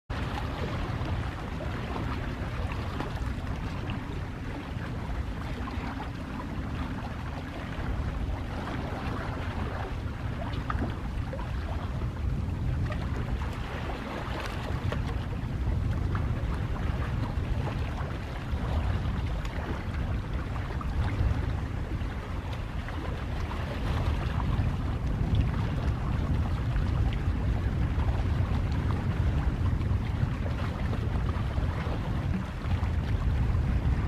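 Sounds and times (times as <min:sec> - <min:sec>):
calm sea waves washing in: 0:00.1 - 0:34.0
low rumble: 0:00.1 - 0:34.0.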